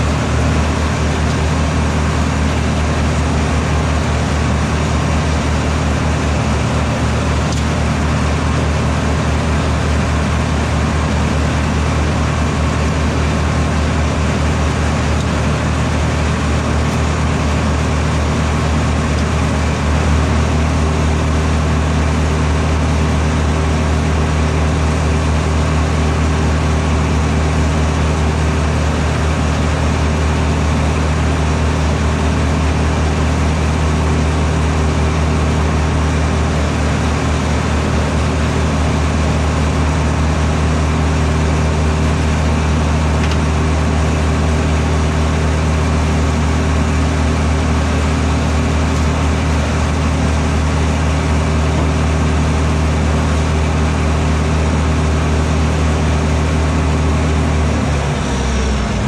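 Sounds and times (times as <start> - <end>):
tractor diesel engine droning: 0.0 - 59.0.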